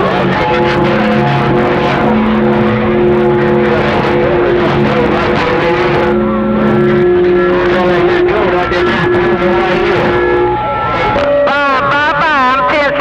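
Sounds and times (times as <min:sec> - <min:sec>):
dense radio hiss: 0:00.0 - 0:13.0
steady radio tones: 0:00.0 - 0:13.0.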